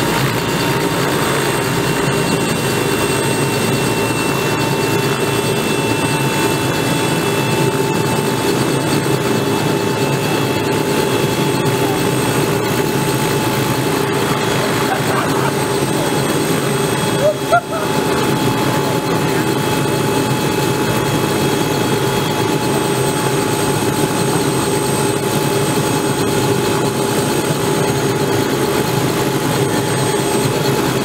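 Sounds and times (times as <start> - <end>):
helicopter turbine whine: 0.0 - 31.0.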